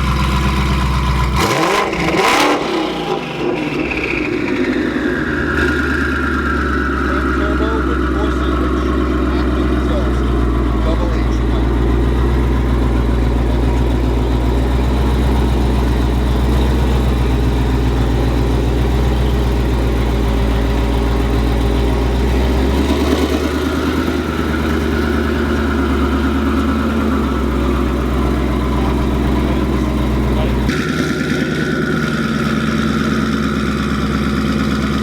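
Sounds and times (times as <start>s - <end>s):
car engine running: 0.0s - 35.0s
engine whine: 0.0s - 35.0s.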